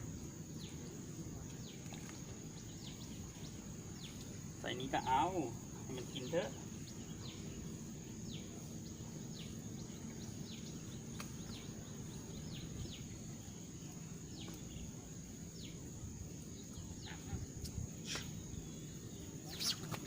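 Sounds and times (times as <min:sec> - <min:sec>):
birds chirping: 0:00.0 - 0:20.0
steady high-pitched whine: 0:00.0 - 0:20.0.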